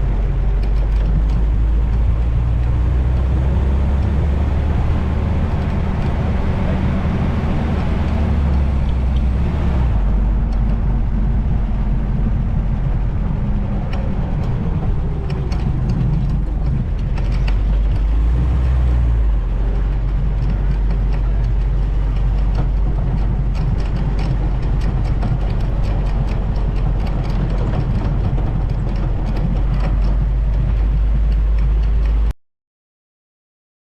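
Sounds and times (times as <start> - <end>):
car engine rumbling: 0.0 - 32.3
road noise: 0.0 - 32.3
wind noise: 0.0 - 32.3.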